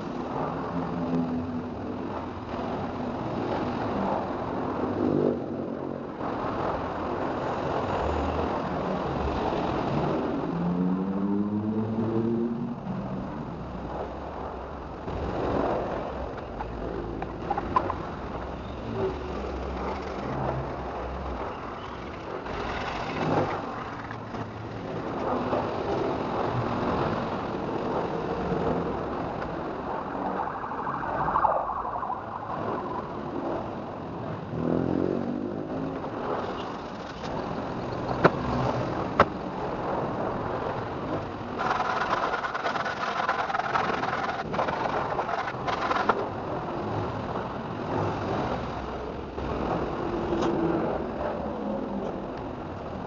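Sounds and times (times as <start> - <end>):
vehicle engine noise: 0.0 - 53.0.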